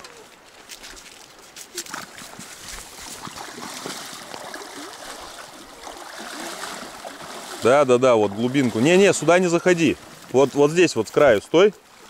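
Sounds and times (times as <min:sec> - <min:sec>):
water splashing around wading legs: 0:00.5 - 0:12.0
river current rushing: 0:01.4 - 0:12.0.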